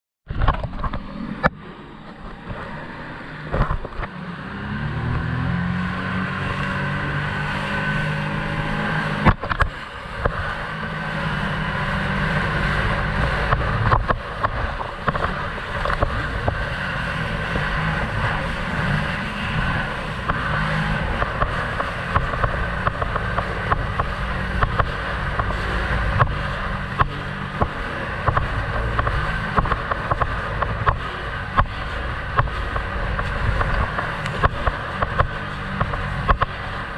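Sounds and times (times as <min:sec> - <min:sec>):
jet ski engine: 0:00.3 - 0:36.9.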